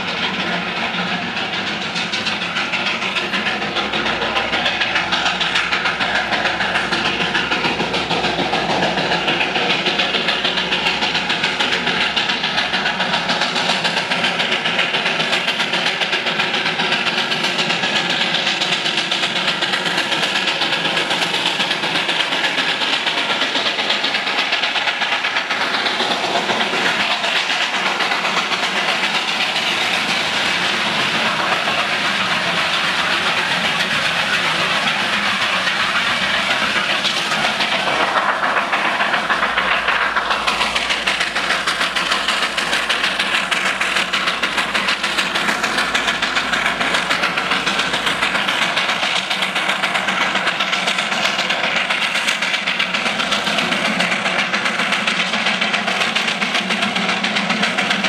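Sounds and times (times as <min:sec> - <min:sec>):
steam locomotive hissing steam: 0:00.0 - 0:58.0.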